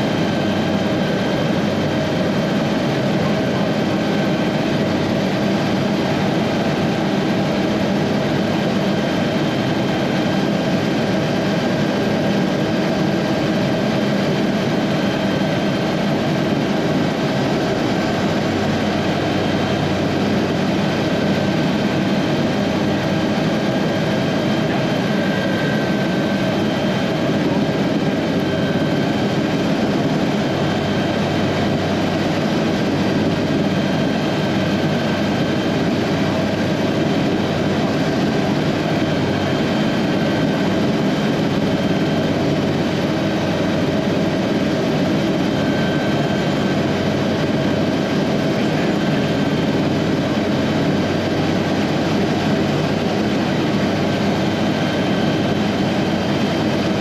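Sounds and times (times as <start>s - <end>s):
helicopter rotor roar: 0.0s - 57.0s
turbine whine: 0.0s - 57.0s.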